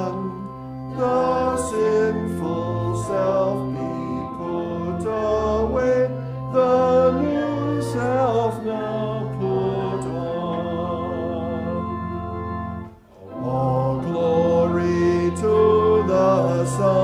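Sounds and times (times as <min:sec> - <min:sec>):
organ playing: 0:00.0 - 0:17.0
voices singing a hymn: 0:00.0 - 0:17.0.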